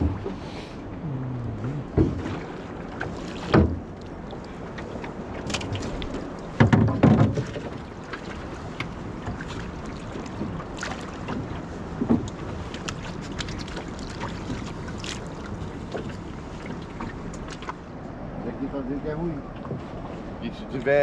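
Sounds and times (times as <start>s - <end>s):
rowboat knocks: 0.0s - 0.4s, 1.7s - 17.8s, 19.5s - 20.3s
water splashes: 0.0s - 21.0s.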